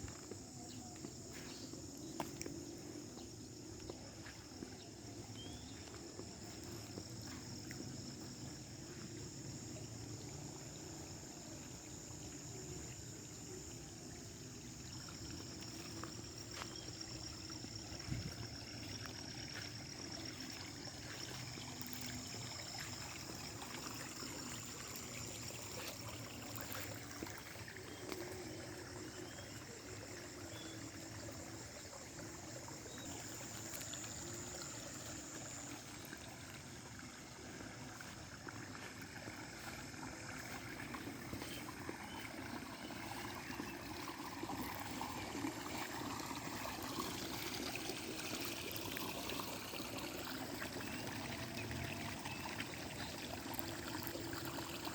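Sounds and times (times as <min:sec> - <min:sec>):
water flowing and trickling: 0:00.0 - 0:54.9.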